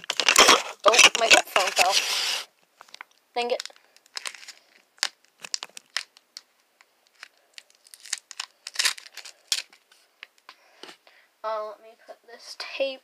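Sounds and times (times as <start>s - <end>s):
plastic wrapping crinkling and ripping: 0.0s - 10.5s.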